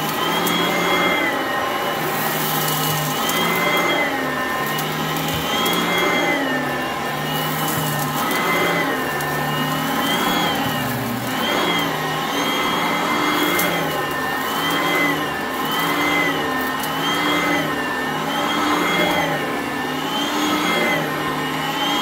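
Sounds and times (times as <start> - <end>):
vacuum cleaner on carpet: 0.0 - 22.0.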